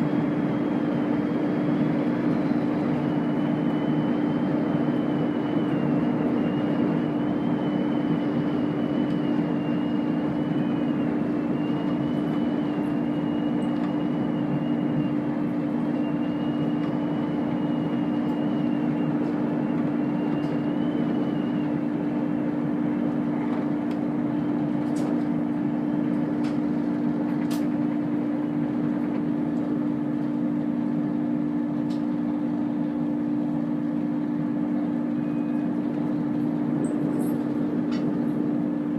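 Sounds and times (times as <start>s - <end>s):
faint wavering whine: 0.0s - 38.9s
train engine drone: 0.0s - 38.9s
wheel and rail rumble: 0.0s - 38.9s.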